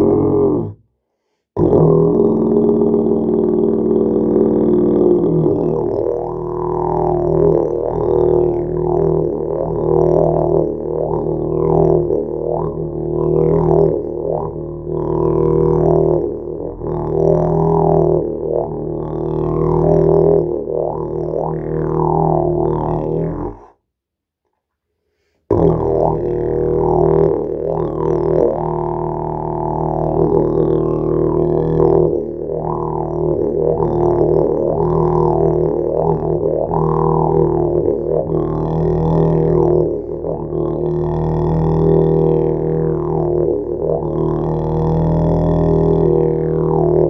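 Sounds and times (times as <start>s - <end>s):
didgeridoo drone: 0.0s - 0.8s, 1.6s - 23.7s, 25.5s - 47.0s.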